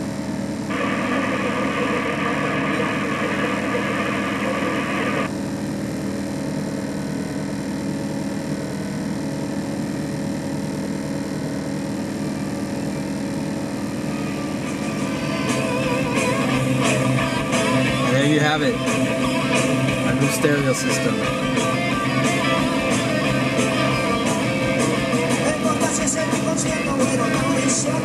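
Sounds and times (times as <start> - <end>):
radio static hiss: 0.2 - 6.0, 9.3 - 28.0
car engine idling: 0.2 - 28.0.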